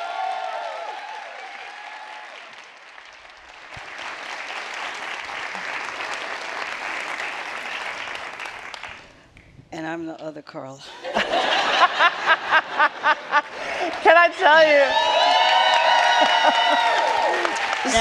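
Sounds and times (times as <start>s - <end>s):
audience applauding: 0.0s - 9.2s, 11.8s - 18.0s.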